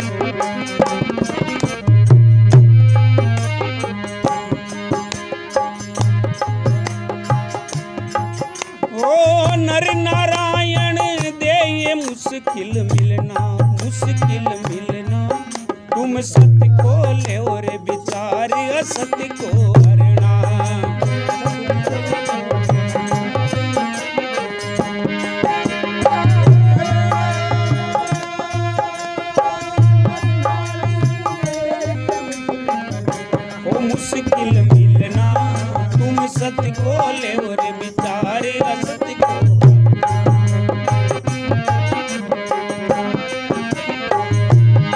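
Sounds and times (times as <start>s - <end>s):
devotional music: 0.0s - 44.9s.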